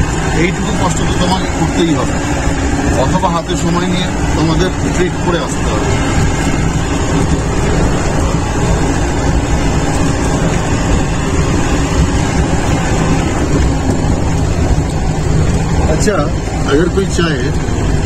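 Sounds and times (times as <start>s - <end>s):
car engine rumbling: 0.0s - 18.0s
road noise: 0.0s - 18.0s.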